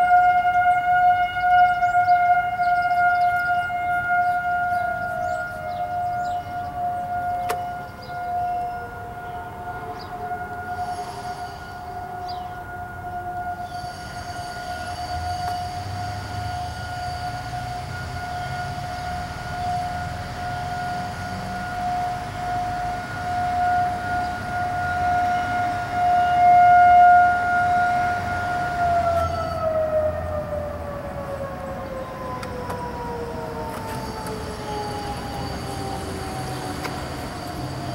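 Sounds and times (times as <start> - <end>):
distant warning siren: 0.0 - 37.9.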